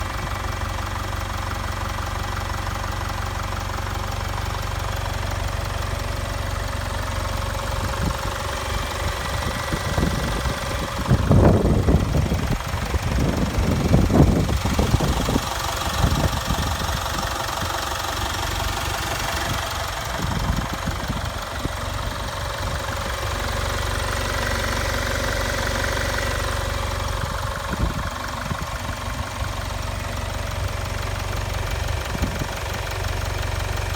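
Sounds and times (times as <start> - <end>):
diesel engine idling: 0.0 - 33.9
irregular low rumbling: 3.8 - 33.8.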